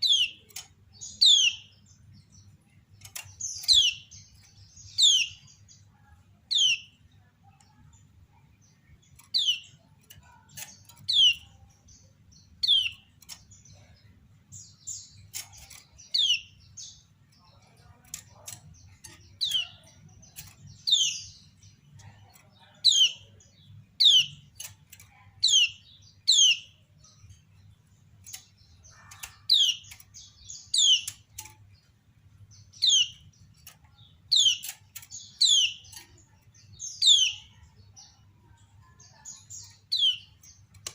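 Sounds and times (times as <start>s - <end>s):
bird chirp calls: 0.0s - 40.9s.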